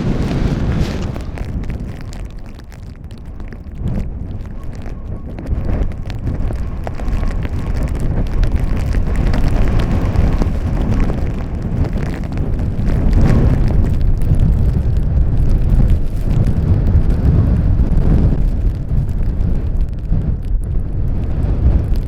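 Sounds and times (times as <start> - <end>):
blizzard wind buffeting microphone: 0.0 - 22.0.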